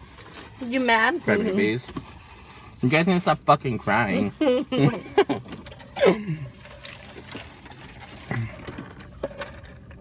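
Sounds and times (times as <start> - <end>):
low steady hum: 0.0 - 10.0
people chewing: 0.0 - 10.0.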